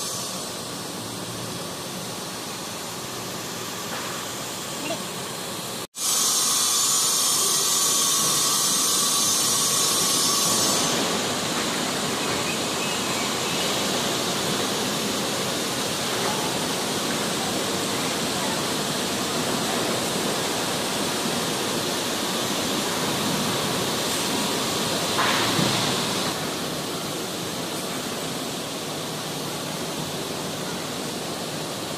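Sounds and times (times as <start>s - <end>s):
steady hissing noise: 0.0s - 31.9s.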